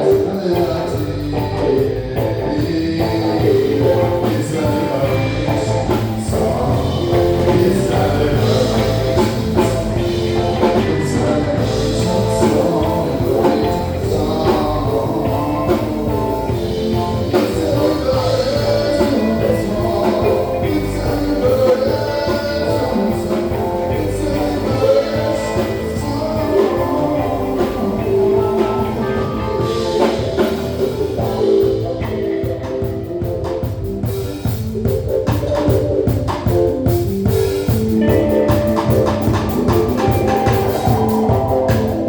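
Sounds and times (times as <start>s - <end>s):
live band playing: 0.0s - 42.0s
person singing: 0.0s - 42.0s.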